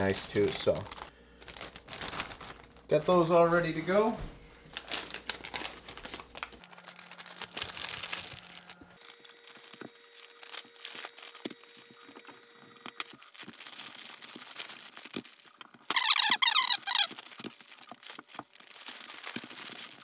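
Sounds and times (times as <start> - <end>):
plastic bags crinkling: 0.0 - 3.8, 4.6 - 20.0.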